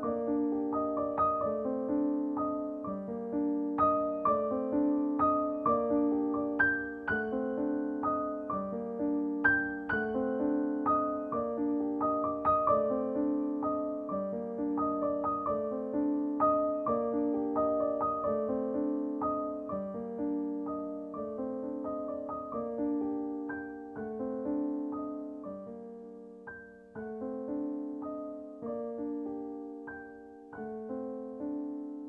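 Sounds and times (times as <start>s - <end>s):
gentle solo piano: 0.0s - 32.0s.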